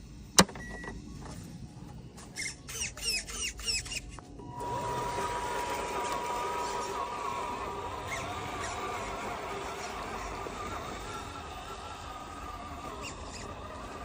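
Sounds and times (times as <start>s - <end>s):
electric motor and gears whining: 0.4s - 14.0s.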